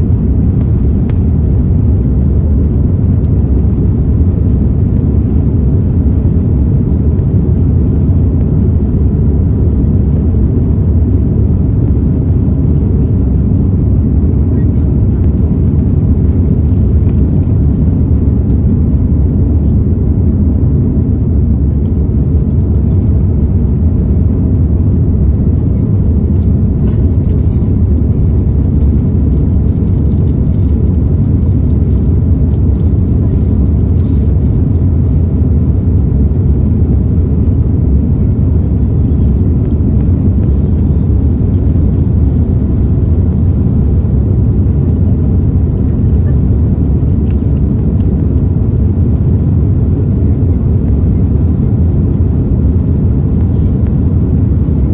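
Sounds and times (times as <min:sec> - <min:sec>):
airplane cabin engine rumble: 0:00.0 - 0:54.9.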